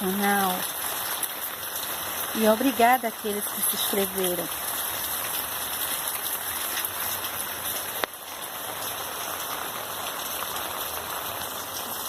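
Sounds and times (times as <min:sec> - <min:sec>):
rain pattering on plants: 0:00.0 - 0:12.0.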